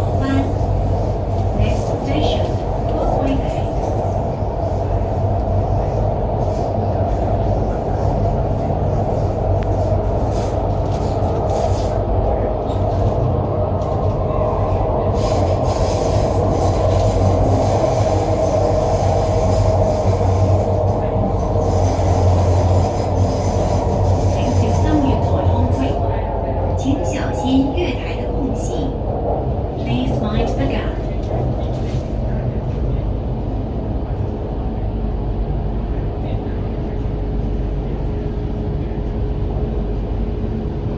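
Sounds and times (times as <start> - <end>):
constant low hum: 0.0 - 40.9
train wheels rumbling on rail: 0.0 - 40.9.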